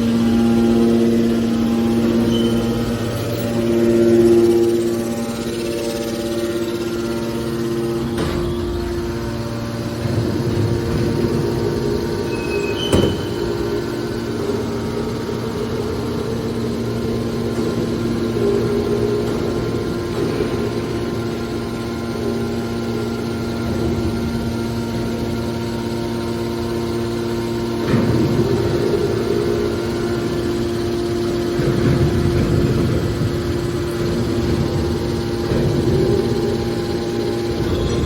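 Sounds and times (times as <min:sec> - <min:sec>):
baler machine hum: 0:00.0 - 0:38.0.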